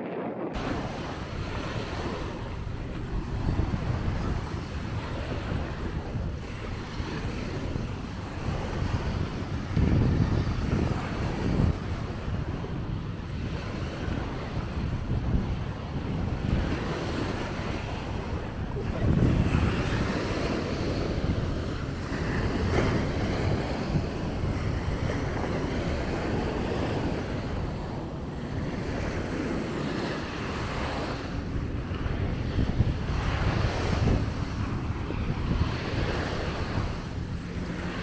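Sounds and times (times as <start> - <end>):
small waves breaking on sand: 0.0 - 38.0
wind buffeting microphone: 0.0 - 38.0.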